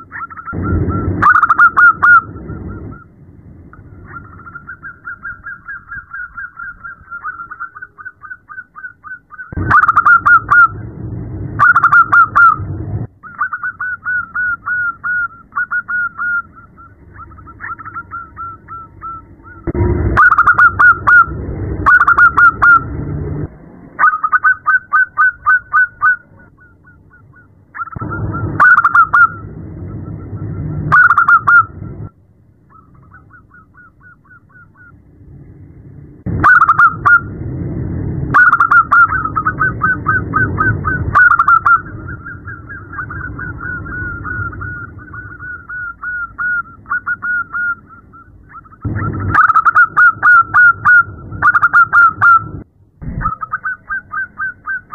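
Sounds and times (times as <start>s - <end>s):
dove cooing: 0.0s - 3.1s, 3.8s - 10.8s, 11.6s - 22.9s, 24.0s - 31.8s, 36.4s - 37.3s, 38.3s - 54.9s.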